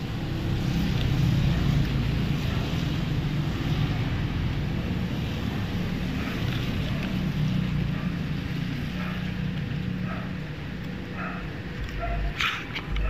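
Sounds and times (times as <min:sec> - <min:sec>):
traffic rumble and hiss: 0:00.0 - 0:13.0.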